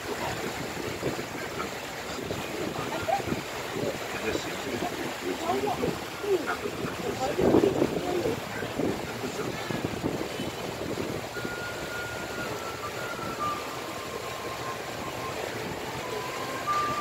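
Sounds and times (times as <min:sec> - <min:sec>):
boat engine running: 0:00.0 - 0:17.0
rush of wind and water: 0:00.0 - 0:17.0.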